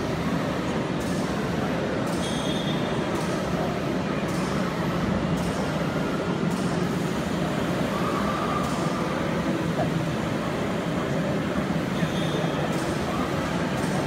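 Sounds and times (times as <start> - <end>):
machinery hum and rumble: 0.0 - 14.0.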